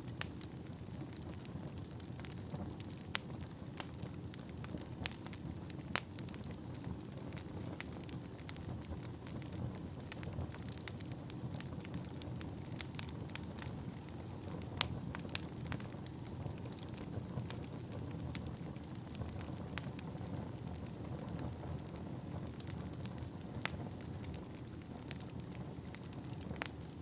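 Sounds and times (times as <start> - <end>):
fire crackles and pops: 0.0 - 27.0
fire rumbling and hissing: 0.0 - 27.0.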